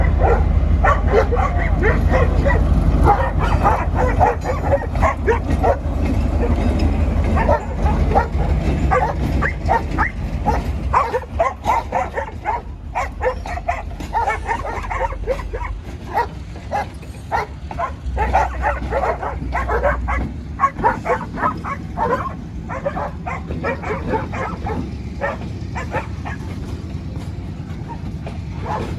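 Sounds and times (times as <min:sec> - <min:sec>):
diesel locomotive rumble: 0:00.0 - 0:28.9
dogs barking and yelping: 0:00.0 - 0:28.9.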